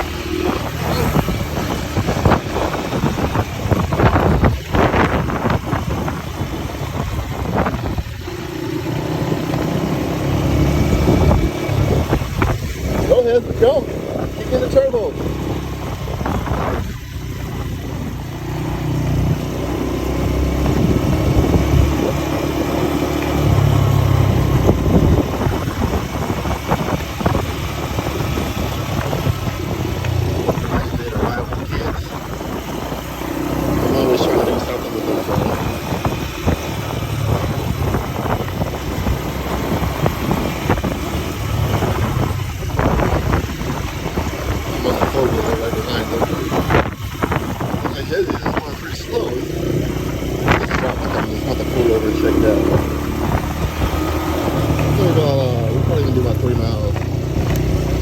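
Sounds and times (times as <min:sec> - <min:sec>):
rumbling of riding along: 0:00.0 - 0:58.0
wind buffeting microphone: 0:00.0 - 0:58.0.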